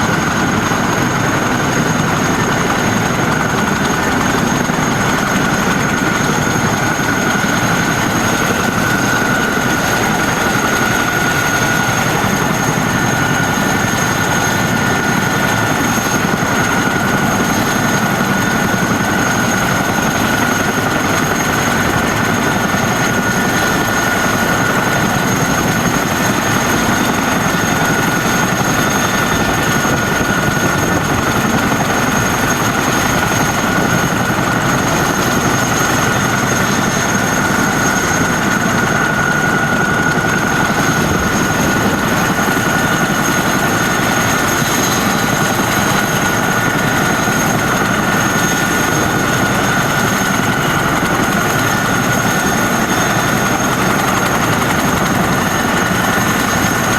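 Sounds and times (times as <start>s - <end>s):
helicopter rotor rush: 0.0s - 56.9s
high-pitched turbine whine: 0.0s - 56.9s.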